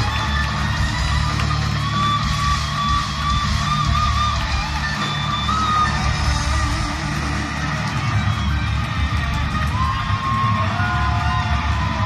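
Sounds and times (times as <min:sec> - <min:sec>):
driving bass and drums: 0:00.0 - 0:10.3
crowd yelling and cheering: 0:00.0 - 0:12.0.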